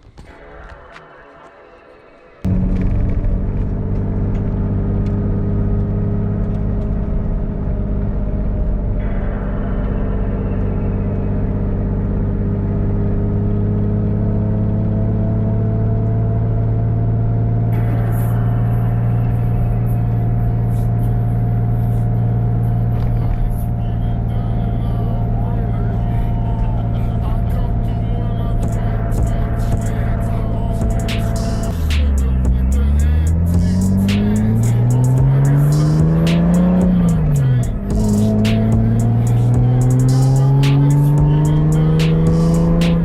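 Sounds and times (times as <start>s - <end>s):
car engine droning: 2.4s - 43.0s.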